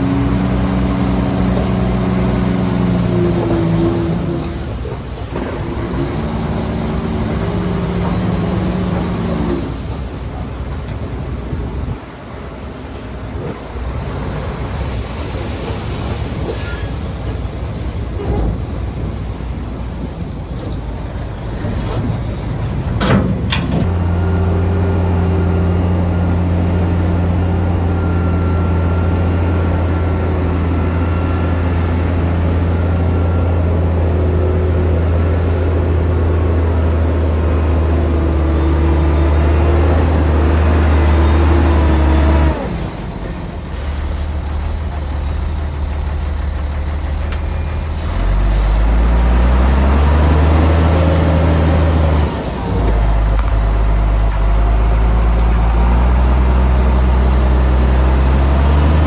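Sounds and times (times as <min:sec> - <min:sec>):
heavy diesel engine revving: 0:00.0 - 0:10.7, 0:21.0 - 0:59.0.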